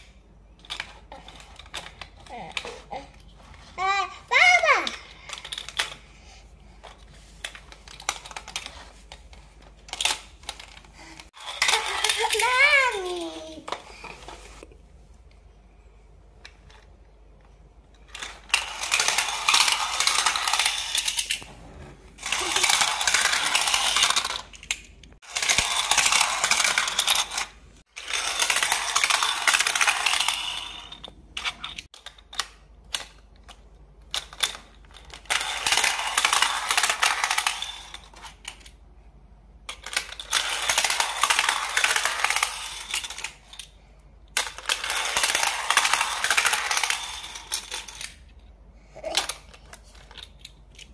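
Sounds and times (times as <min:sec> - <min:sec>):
toy cars rattling down ramps: 0:00.0 - 0:14.7, 0:17.9 - 0:38.8, 0:39.6 - 0:48.4, 0:49.0 - 0:50.9.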